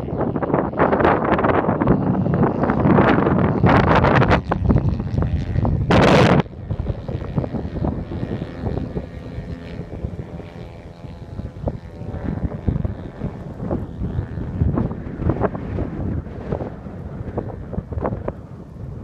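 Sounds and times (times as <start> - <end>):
model airplane engine droning: 0.0 - 19.0
wind buffeting microphone: 0.0 - 19.0.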